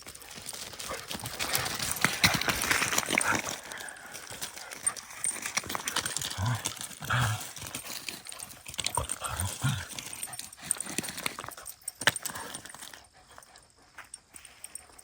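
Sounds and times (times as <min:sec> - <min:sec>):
dogs growling low: 0:00.7 - 0:13.6.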